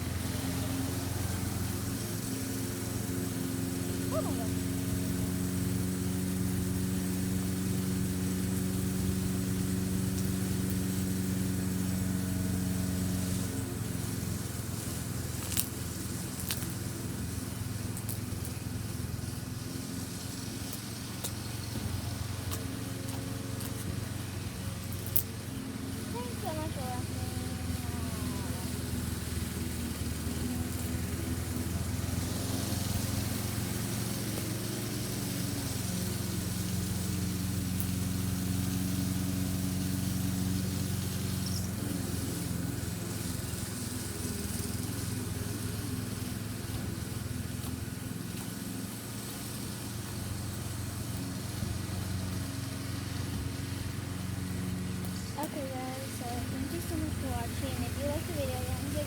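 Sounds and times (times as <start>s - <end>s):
even hiss: 0.0s - 59.0s
low mechanical hum: 0.0s - 59.0s.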